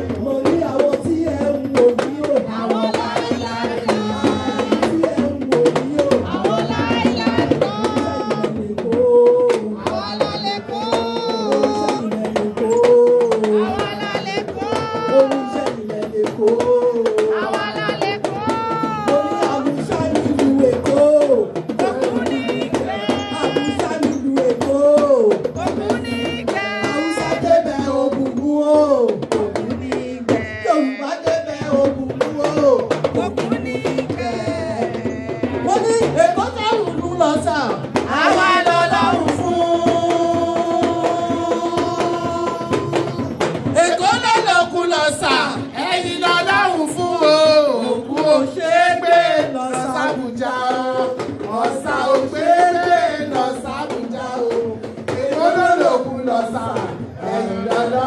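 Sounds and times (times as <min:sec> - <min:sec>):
drums and percussion: 0:00.0 - 0:58.0
person singing: 0:00.0 - 0:58.0.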